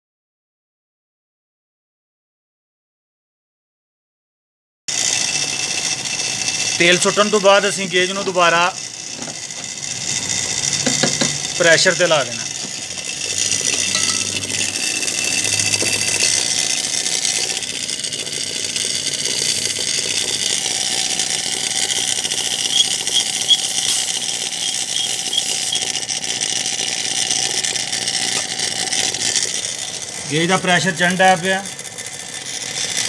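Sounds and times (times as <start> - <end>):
refrigerator compressor running: 4.9 - 33.0.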